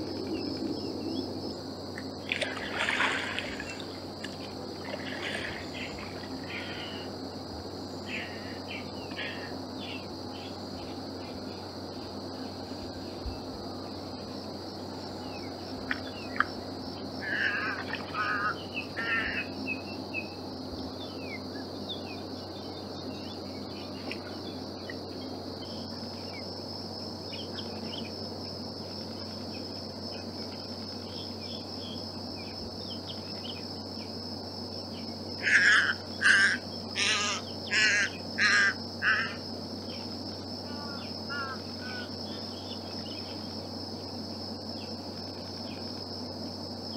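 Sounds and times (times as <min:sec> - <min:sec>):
insect buzz: 0:00.0 - 0:46.9.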